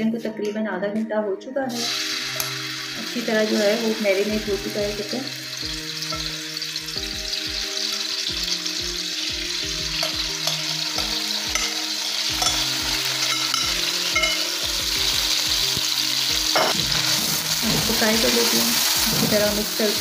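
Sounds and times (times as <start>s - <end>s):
soft background music: 0.0s - 20.0s
chicken sizzling in hot oil: 1.7s - 20.0s.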